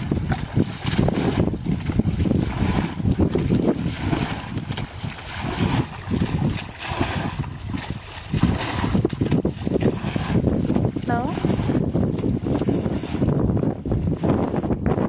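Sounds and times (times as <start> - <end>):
muddy water splashing: 0.0 - 15.0.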